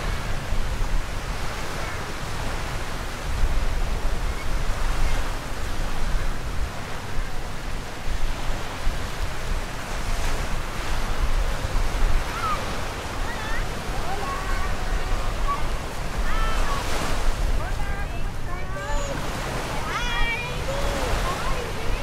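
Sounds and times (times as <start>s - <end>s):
small waves breaking on sand: 0.0s - 22.0s
wind rumbling on microphone: 0.0s - 22.0s.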